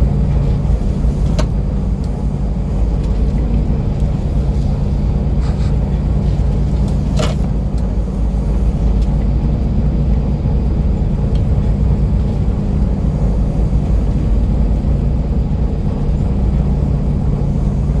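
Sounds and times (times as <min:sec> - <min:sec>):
ship engine drone: 0:00.0 - 0:18.0.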